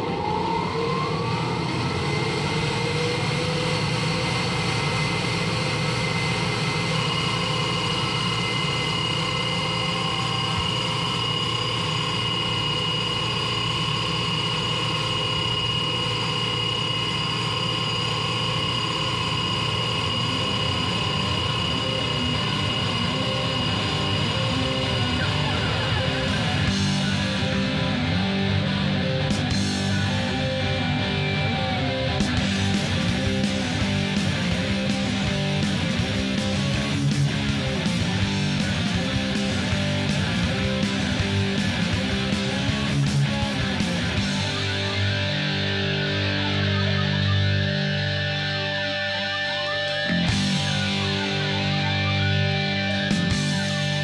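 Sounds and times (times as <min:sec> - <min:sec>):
engine-like rumbling drone: 0:00.0 - 0:48.8
high steady whistle: 0:00.0 - 0:54.0.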